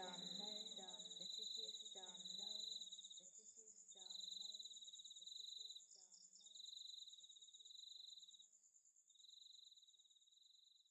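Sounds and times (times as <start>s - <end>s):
high pulsing insect trill: 0.0s - 10.8s
lower insect trill: 0.0s - 10.9s.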